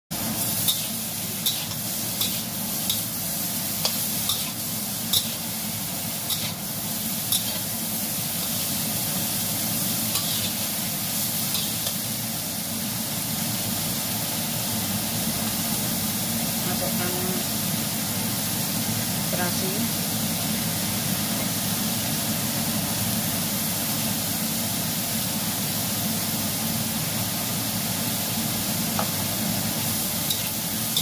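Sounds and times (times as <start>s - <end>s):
food sizzling in a wok: 0.1s - 31.0s.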